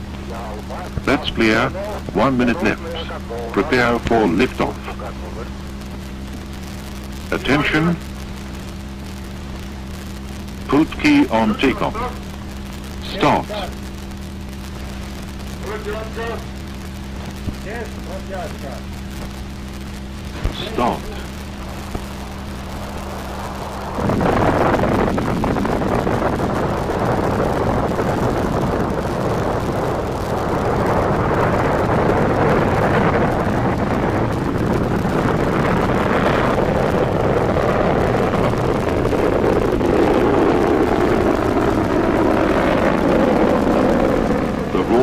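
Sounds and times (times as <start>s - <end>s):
low hum: 0.0s - 45.0s
rocket engines roaring: 0.0s - 45.0s.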